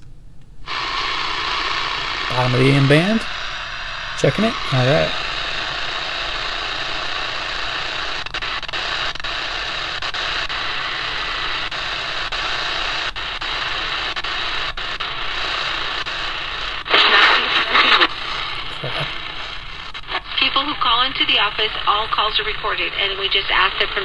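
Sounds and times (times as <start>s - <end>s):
burst of radio noise: 0.7s - 24.0s
radio static hissing: 0.7s - 24.0s.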